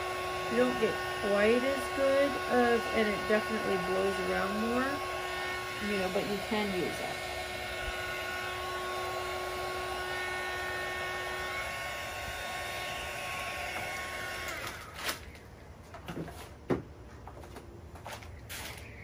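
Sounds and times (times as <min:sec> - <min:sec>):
heat gun whining and blowing: 0:00.0 - 0:15.4.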